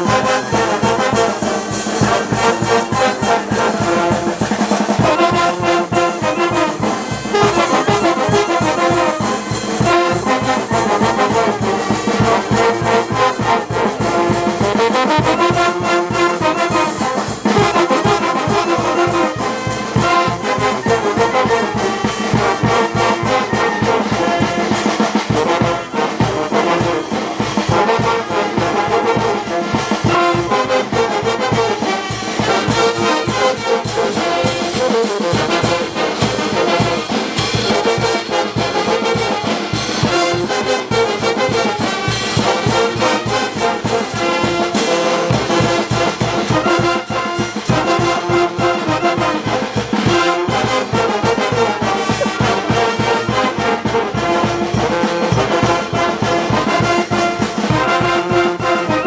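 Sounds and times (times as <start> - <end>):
brass band playing: 0.0 - 59.0
steady drum beat: 0.0 - 59.0.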